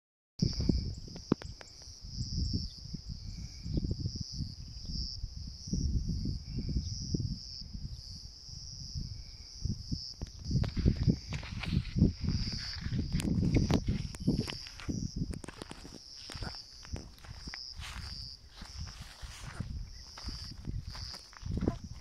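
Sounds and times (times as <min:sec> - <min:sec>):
high-pitched insect chorus: 0:00.4 - 0:22.0.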